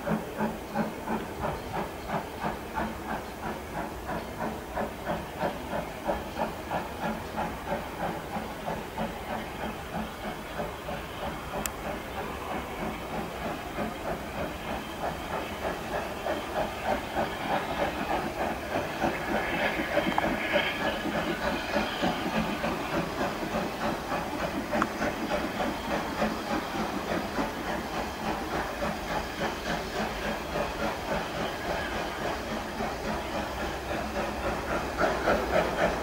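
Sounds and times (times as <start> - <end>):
steam hissing: 0.0 - 36.0
steam locomotive chuffing: 0.0 - 36.0.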